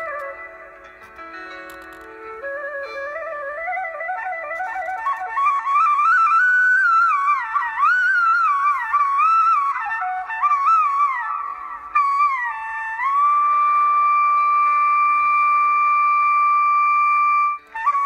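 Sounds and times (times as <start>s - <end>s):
flute-like melody: 0.0s - 18.0s.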